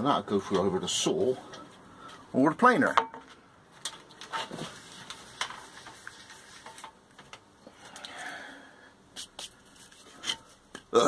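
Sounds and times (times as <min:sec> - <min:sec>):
faint room noise: 0:00.0 - 0:11.0.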